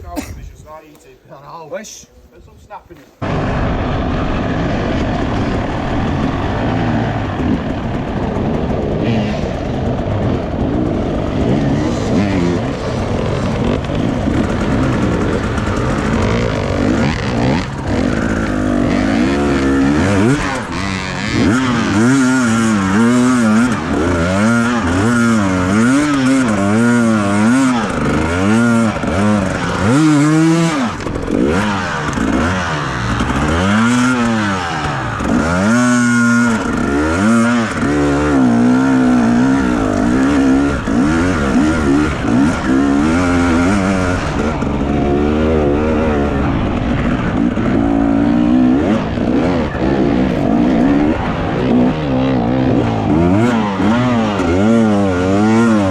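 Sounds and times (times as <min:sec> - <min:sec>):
motorcycle engine revving: 0:03.2 - 0:55.9.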